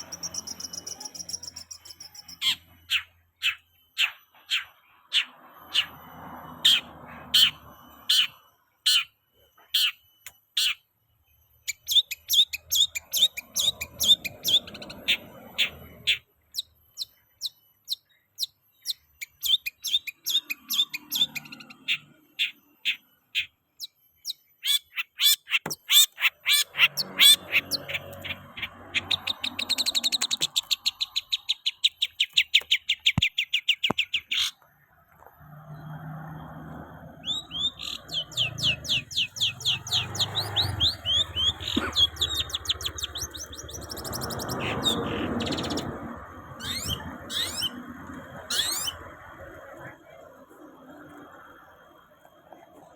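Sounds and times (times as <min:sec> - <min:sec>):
songbird chirping and trilling: 0:00.0 - 0:51.6.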